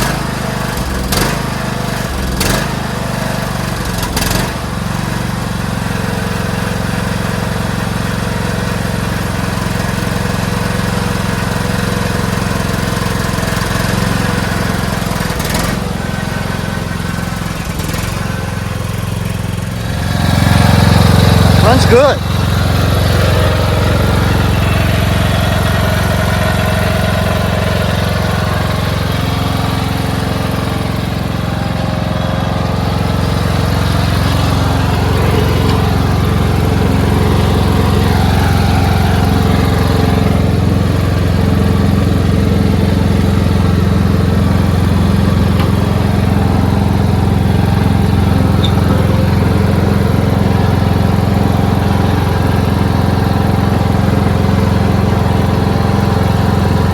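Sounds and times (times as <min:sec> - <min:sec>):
lawn tractor engine running: 0:00.0 - 0:56.9.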